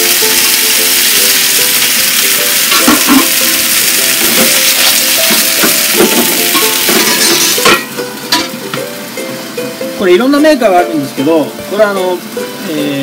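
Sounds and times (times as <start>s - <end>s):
clams sizzling in frying pan: 0.0s - 13.0s.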